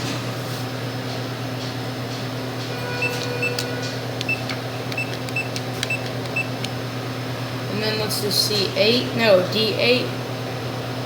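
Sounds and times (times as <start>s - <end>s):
vending machine electrical hum: 0.0s - 11.0s.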